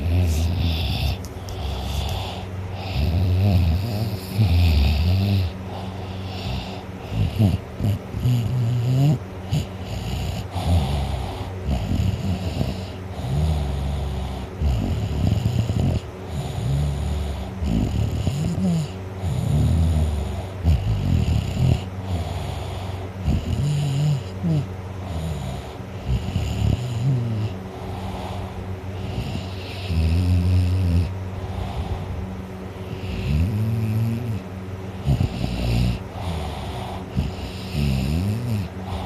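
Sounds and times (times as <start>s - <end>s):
boy snoring loudly: 0.0s - 32.1s, 32.9s - 39.0s.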